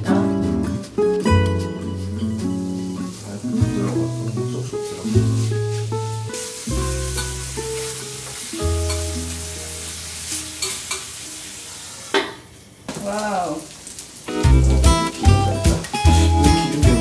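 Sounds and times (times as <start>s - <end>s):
plucked guitar music: 0.0s - 11.0s, 14.3s - 17.0s
meat sizzling on a griddle: 1.9s - 17.0s.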